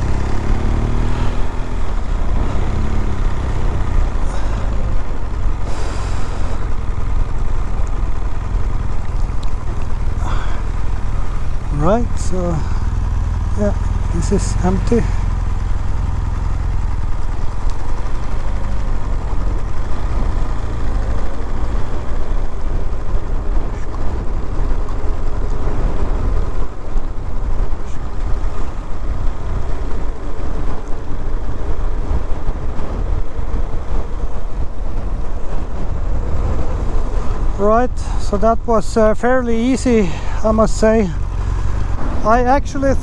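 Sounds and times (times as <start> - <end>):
motorcycle engine: 0.0 - 38.4, 39.0 - 43.0
wind rumble: 0.0 - 43.0.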